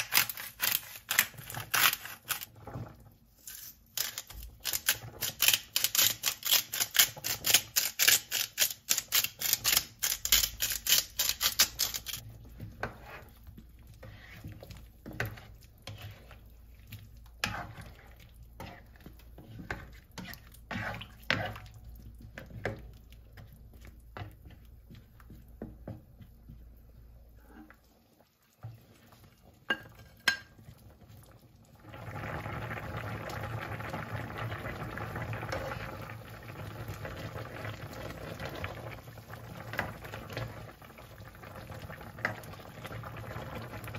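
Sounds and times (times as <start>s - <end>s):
spoon stirring food in a pan: 0.0s - 31.8s, 32.7s - 43.9s.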